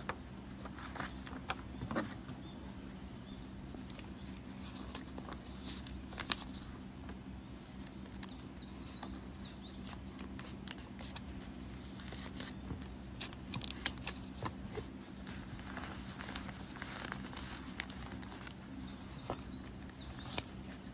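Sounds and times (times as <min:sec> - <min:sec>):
paper rustling: 0:00.0 - 0:20.9
plastic sleeve handled: 0:00.0 - 0:20.9
steady low hum: 0:00.0 - 0:20.9.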